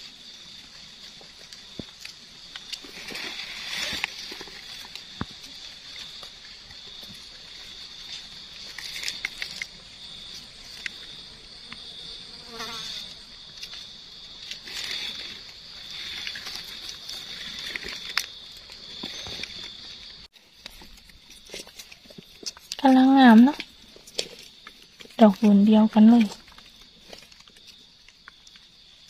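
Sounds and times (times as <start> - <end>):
rustle of dry leaf litter: 0.0 - 11.3, 12.6 - 29.0.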